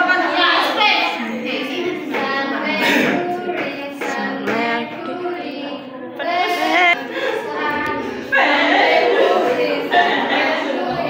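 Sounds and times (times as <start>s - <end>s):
woman singing: 1.2s - 11.0s.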